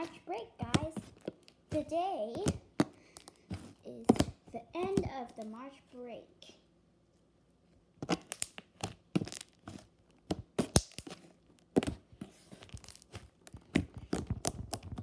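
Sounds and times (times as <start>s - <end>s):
slime squishing with sticky pops: 0.0s - 5.5s, 8.0s - 15.0s.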